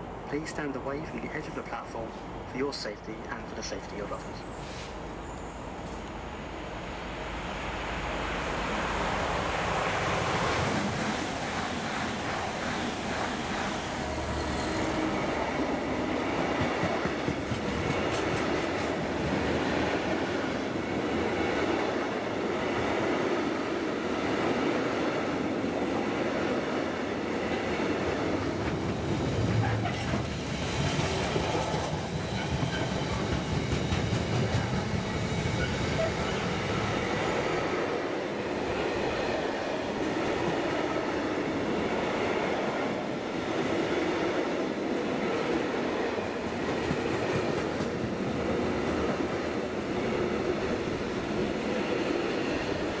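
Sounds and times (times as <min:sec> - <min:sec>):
freight train wheels rumbling on rails: 0:07.7 - 0:53.0.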